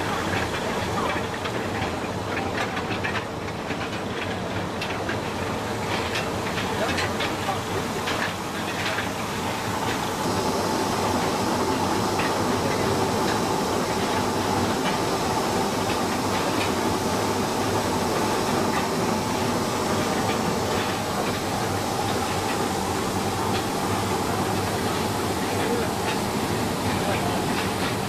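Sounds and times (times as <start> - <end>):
dryer machinery running: 0.0 - 28.0.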